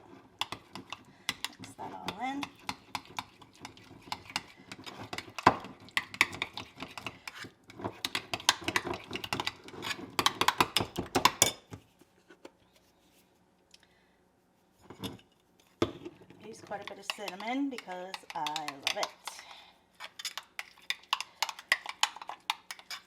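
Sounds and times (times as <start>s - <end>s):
spoon clinking and scraping bowl: 0.0s - 11.7s, 15.9s - 23.0s.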